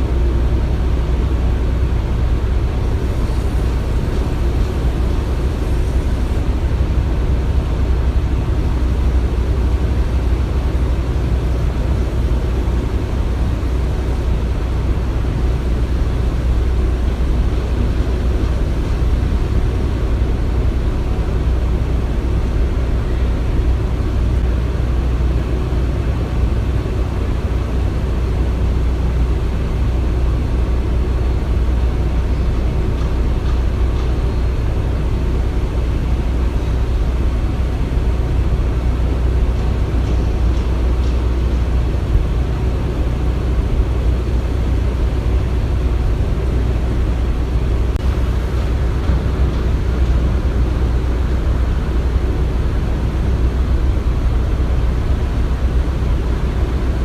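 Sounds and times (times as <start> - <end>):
low machine rumble: 0.0 - 57.0.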